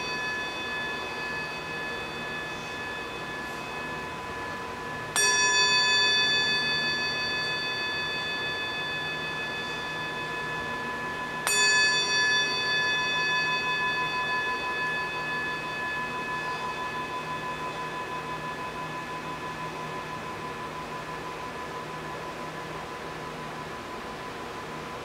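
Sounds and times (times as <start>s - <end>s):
metal singing bowl ringing: 0.0s - 25.0s.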